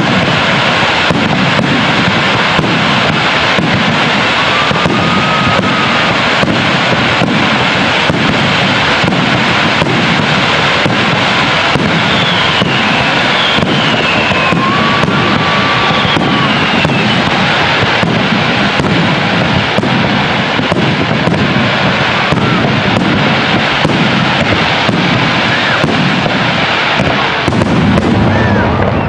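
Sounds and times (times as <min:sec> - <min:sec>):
fireworks bursting and crackling: 0:00.0 - 0:29.0
fireworks whistling: 0:00.0 - 0:29.0.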